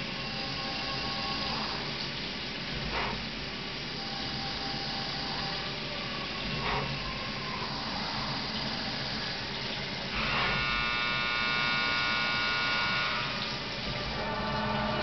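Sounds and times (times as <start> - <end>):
milling machine whirring: 0.0 - 15.0.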